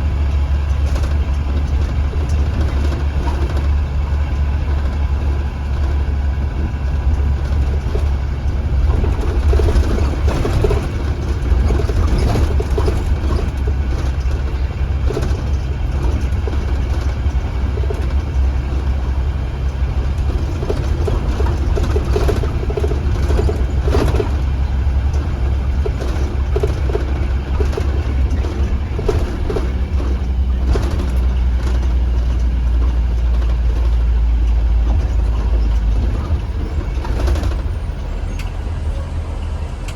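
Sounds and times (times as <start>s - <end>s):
bus engine drone: 0.0s - 39.9s
rattling: 0.4s - 39.9s.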